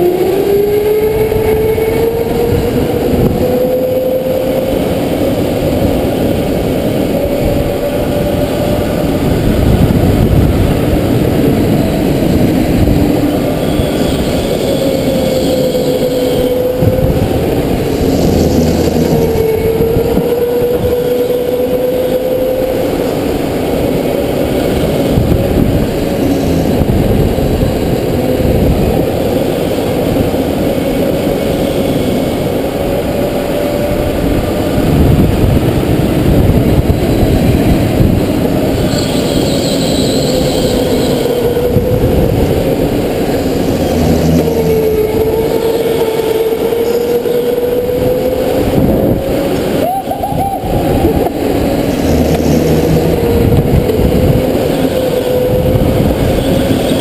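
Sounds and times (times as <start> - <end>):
go-kart motor whining: 0.0 - 57.0.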